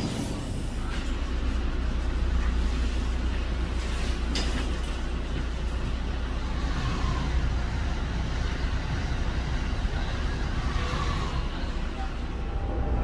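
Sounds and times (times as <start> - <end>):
rail noise: 0.0 - 13.0
train rumbling past: 0.0 - 13.0.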